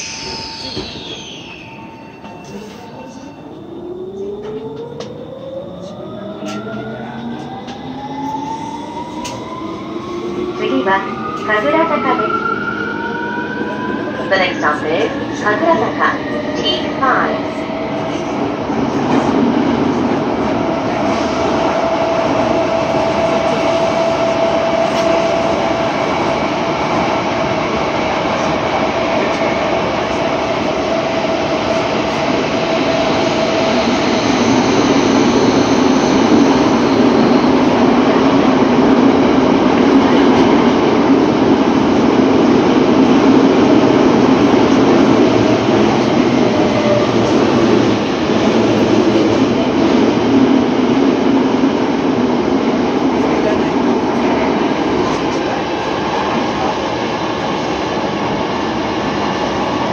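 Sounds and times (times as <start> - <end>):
subway train running noise: 0.0 - 59.9.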